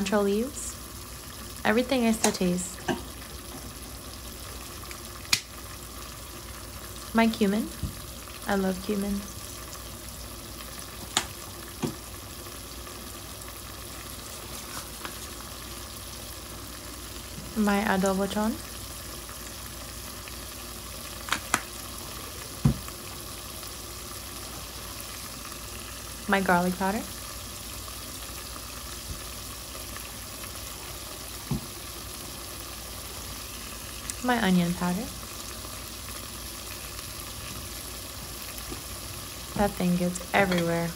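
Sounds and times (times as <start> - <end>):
vegetables sizzling in oil: 0.0 - 40.9.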